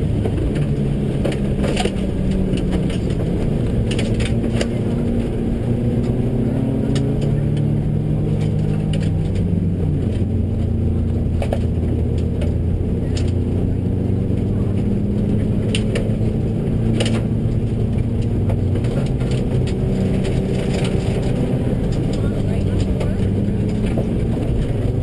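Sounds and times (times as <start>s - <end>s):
rally car engine revving: 0.0s - 25.0s.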